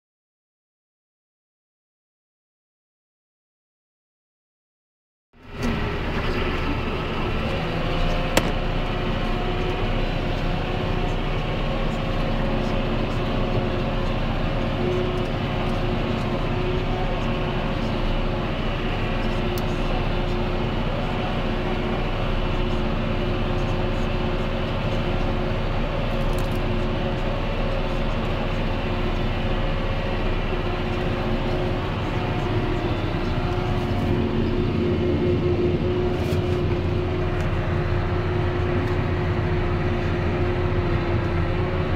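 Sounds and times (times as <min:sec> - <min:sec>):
tractor diesel engine under load: 0:05.4 - 0:41.9.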